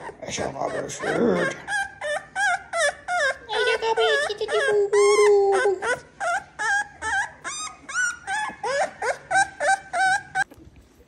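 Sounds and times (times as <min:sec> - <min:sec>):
puppy whining: 0:00.0 - 0:11.0.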